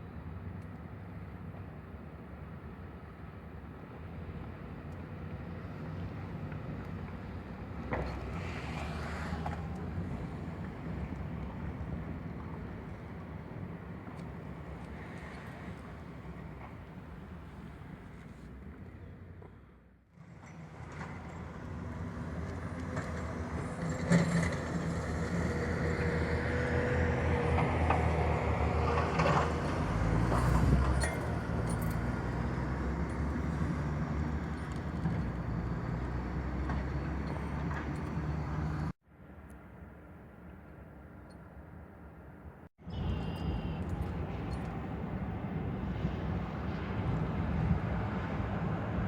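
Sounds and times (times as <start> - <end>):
road noise: 0.0 - 49.0
vehicle engine hum: 3.8 - 19.9, 20.7 - 39.0, 42.8 - 49.0.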